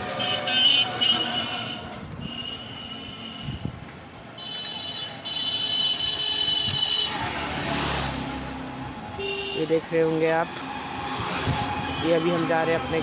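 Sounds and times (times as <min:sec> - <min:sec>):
light street traffic: 0:00.0 - 0:13.0.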